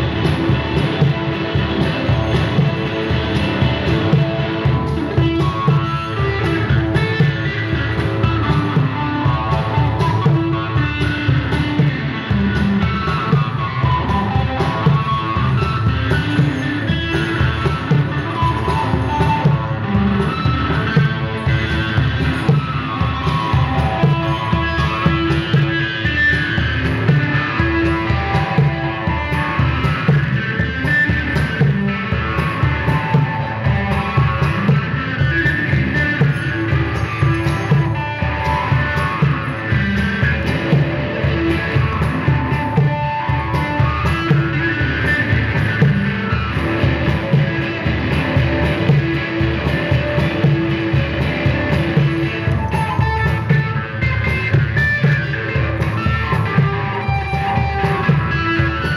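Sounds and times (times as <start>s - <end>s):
electric guitar melody: 0.0s - 58.9s
fast percussion: 0.0s - 58.9s.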